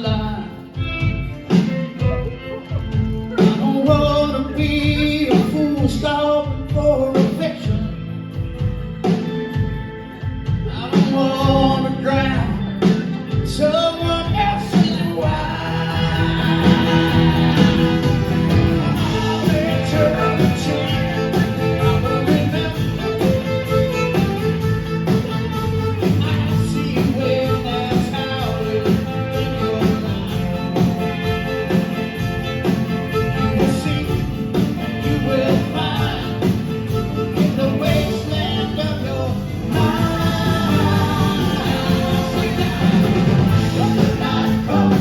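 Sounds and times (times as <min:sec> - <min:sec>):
person singing: 0:00.0 - 0:08.1, 0:10.6 - 0:31.8, 0:33.1 - 0:45.0
live rock band playing: 0:00.0 - 0:45.0.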